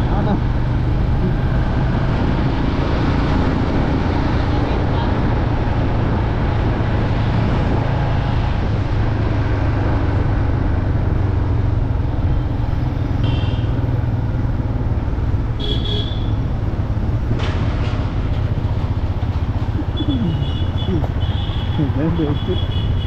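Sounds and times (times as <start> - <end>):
motorcycle engine humming: 0.0 - 23.0
wind and road noise: 0.0 - 23.0.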